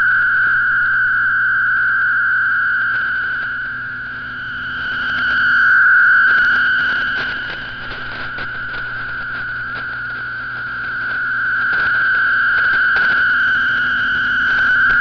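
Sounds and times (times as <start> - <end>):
buzzing data signal tone: 0.0 - 15.0
static crackles: 0.0 - 15.0.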